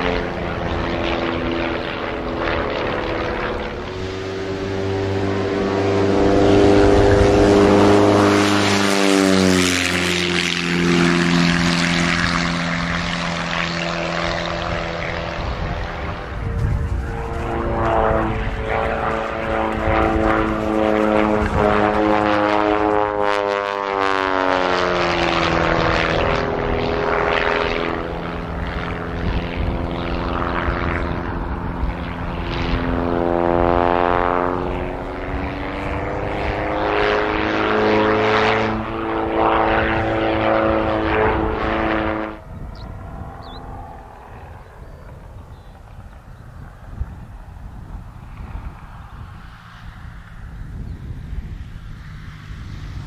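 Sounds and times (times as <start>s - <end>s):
propeller aircraft engine: 0.0s - 53.0s.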